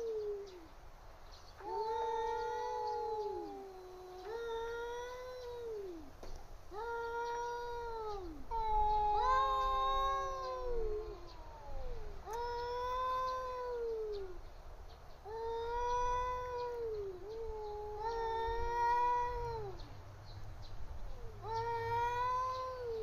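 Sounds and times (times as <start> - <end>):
cats yowling: 0.0 - 0.7, 1.6 - 6.1, 6.7 - 14.4, 15.3 - 19.9, 21.0 - 23.0.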